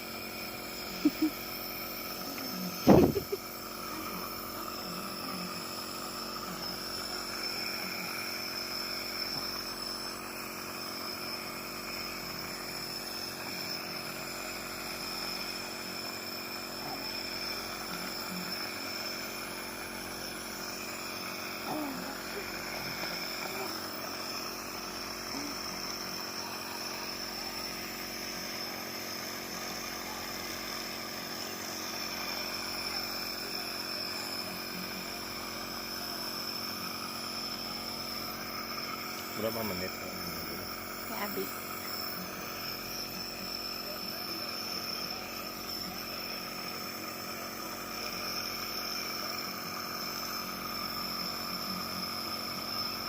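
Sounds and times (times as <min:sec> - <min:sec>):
nebulizer motor humming: 0:00.0 - 0:53.0.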